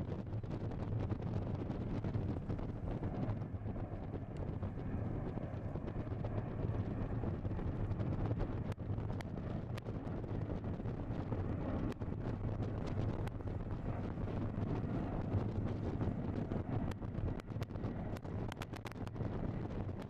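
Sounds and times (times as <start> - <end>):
jet airliner roar: 0.0 - 20.0
wind buffeting microphone: 0.0 - 20.0.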